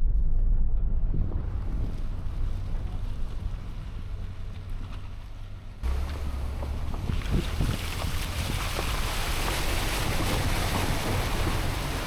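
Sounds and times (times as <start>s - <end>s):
car rumbling on rough road: 0.0s - 12.0s
wind noise on microphone: 0.0s - 12.0s.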